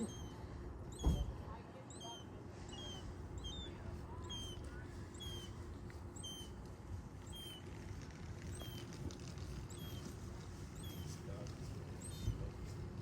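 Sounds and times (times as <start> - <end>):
young animal squeaking: 0.0 - 12.5.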